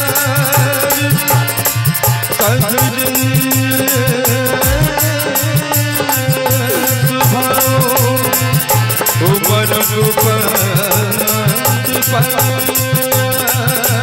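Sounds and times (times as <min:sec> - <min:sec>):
dholak and drum beat: 0:00.0 - 0:14.0.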